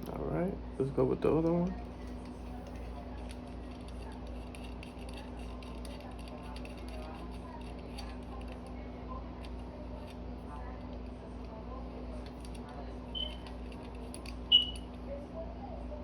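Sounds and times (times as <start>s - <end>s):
steady electrical hum: 0.0s - 16.0s
faint background voices: 1.5s - 16.0s.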